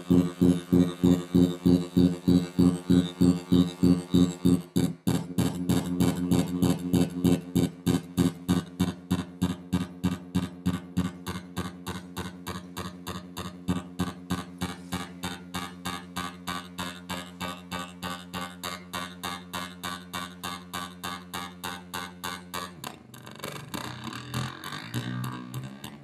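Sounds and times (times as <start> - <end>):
distorted electronic pulsing: 0.0 - 25.6
steady low hum: 0.0 - 26.0.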